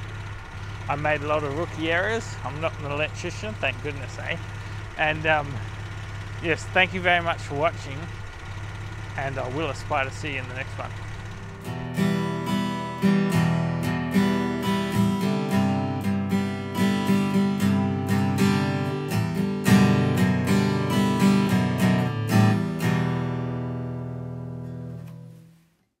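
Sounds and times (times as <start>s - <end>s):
acoustic guitar strumming: 0.0s - 25.7s.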